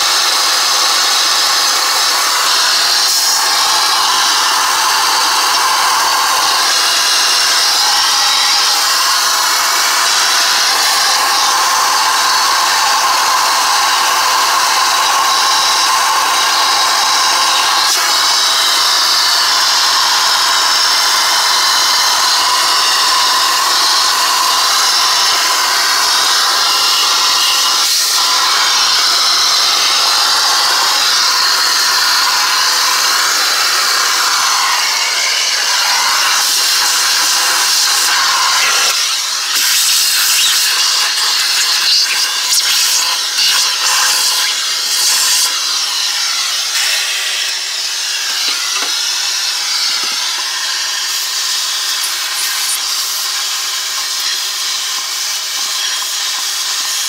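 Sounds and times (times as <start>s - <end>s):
electric motor with rushing air: 0.0s - 57.0s.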